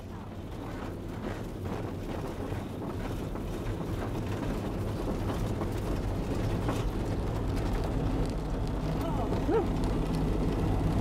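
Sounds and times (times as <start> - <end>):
aircraft engine humming: 0.0 - 11.0.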